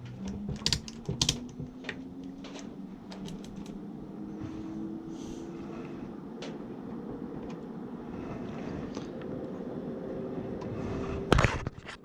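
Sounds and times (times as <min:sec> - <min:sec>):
faint hum: 0:00.0 - 0:11.7.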